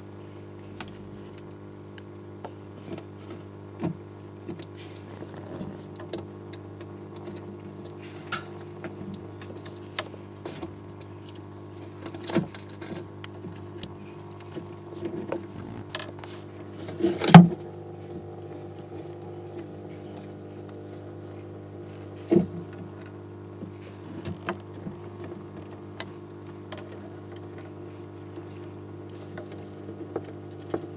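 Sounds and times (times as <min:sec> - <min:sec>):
low mechanical hum: 0:00.0 - 0:30.9.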